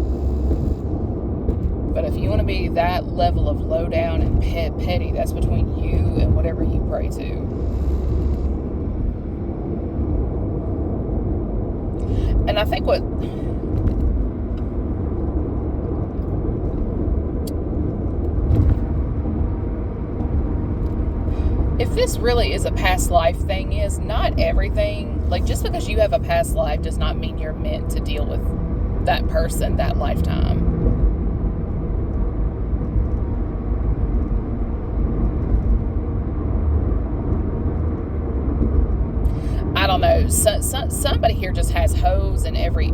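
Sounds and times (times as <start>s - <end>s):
car road and engine noise: 0.0s - 42.9s
steady low rumble: 0.0s - 42.9s.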